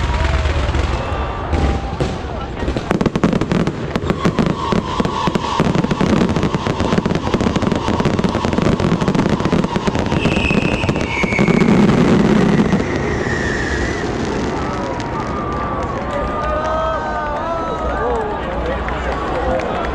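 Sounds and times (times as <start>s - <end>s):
fireworks crackling and popping: 0.0s - 16.8s.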